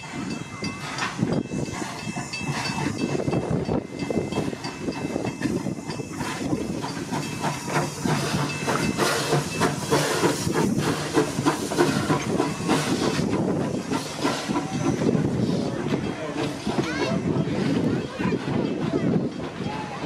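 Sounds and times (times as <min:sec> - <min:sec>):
steam hissing: 0:00.0 - 0:20.0
wheels clattering on rails: 0:00.0 - 0:20.0.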